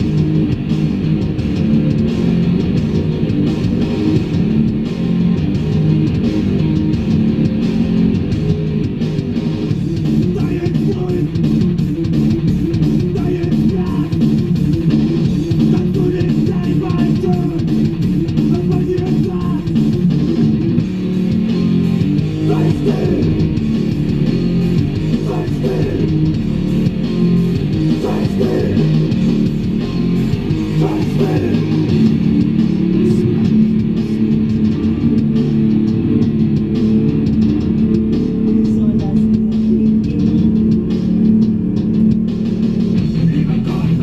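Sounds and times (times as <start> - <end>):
bass guitar: 0.0 - 44.0
rock music with electric guitar: 0.0 - 44.0.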